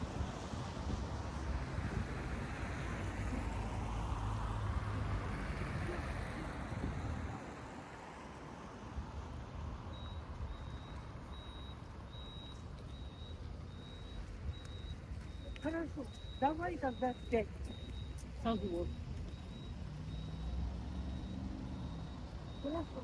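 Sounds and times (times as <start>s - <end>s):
vehicle passing: 0.0s - 23.0s.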